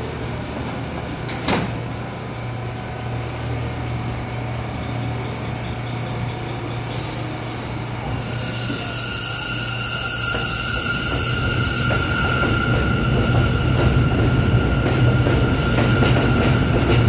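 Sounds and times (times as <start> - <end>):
train equipment low hum: 0.0 - 17.0.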